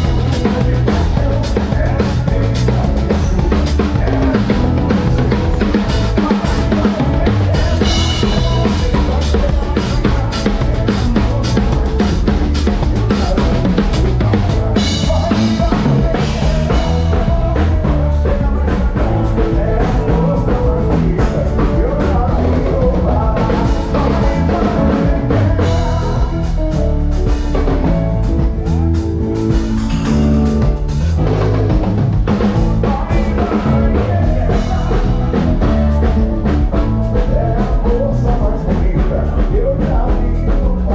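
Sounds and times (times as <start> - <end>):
drum kit kick and snare: 0.0 - 40.9
keyboards: 0.0 - 40.9.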